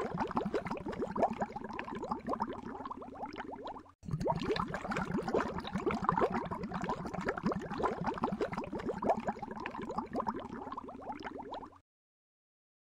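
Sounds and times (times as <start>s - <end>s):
water bubbling: 0.0s - 11.8s.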